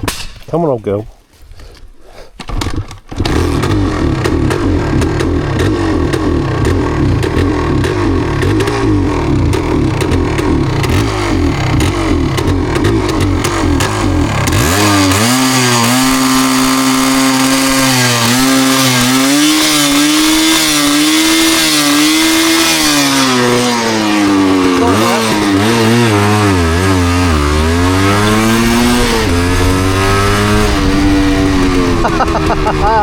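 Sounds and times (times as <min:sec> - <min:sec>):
two-stroke motorcycle engine misfiring: 0:02.4 - 0:33.0.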